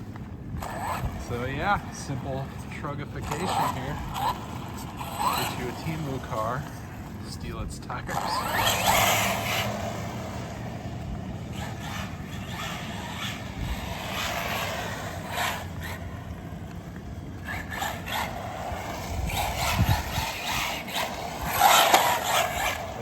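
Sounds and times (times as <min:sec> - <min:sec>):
rc car motor whirring: 0:00.0 - 0:23.0
tires scuffing ground: 0:00.0 - 0:23.0.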